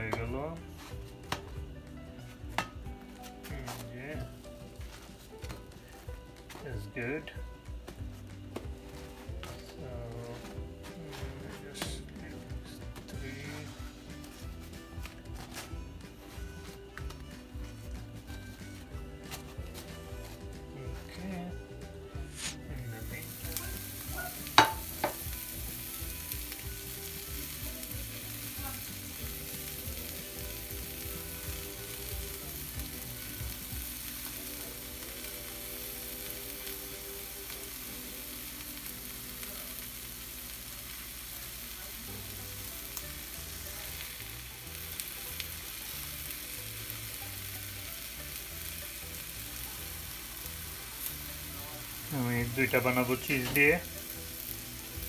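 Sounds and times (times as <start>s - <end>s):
burger patties sizzling on griddle: 0.0s - 55.0s.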